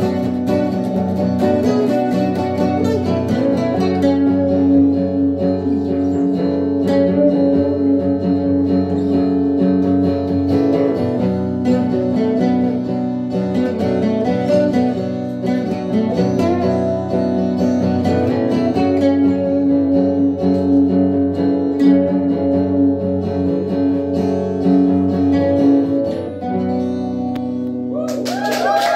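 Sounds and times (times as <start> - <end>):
acoustic guitars strumming: 0.0 - 28.0.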